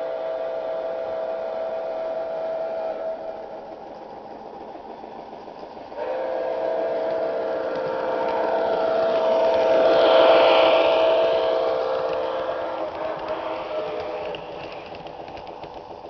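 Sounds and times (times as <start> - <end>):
two-tone train whistle: 0.0 - 3.7, 6.0 - 15.6
model locomotive running noise: 0.0 - 16.0.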